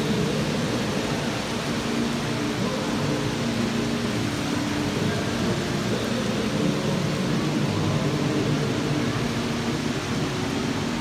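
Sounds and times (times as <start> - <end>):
faint murmur of voices: 0.0 - 11.0
steady hiss: 0.0 - 11.0.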